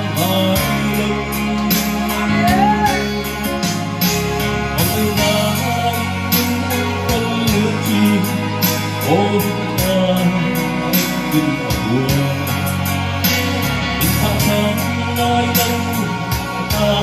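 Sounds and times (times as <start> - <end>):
instrumental accompaniment with beat: 0.0 - 17.0
man singing into a microphone: 0.0 - 17.0.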